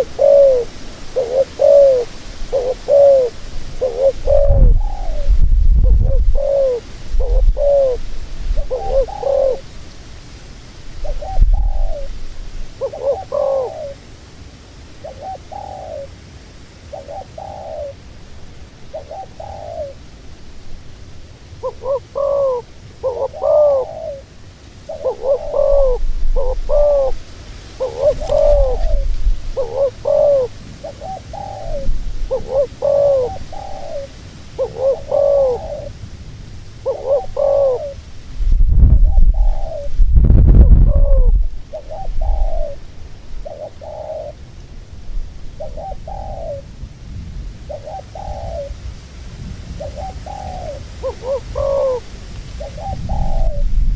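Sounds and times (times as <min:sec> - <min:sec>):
doves cooing: 0:00.0 - 0:09.8, 0:10.9 - 0:14.1, 0:14.9 - 0:16.2, 0:16.8 - 0:20.2, 0:21.4 - 0:36.0, 0:36.6 - 0:38.1, 0:39.0 - 0:46.8, 0:47.6 - 0:48.9, 0:49.8 - 0:53.8.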